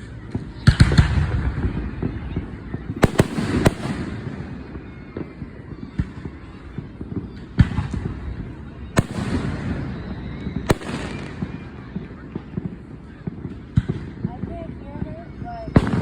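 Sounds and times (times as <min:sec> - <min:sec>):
firework bangs: 0:00.0 - 0:16.0
fireworks crackling and popping: 0:00.0 - 0:16.0.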